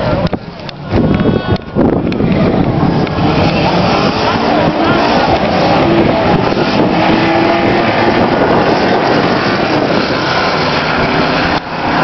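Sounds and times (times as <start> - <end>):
cars racing at full throttle: 0.0 - 12.0.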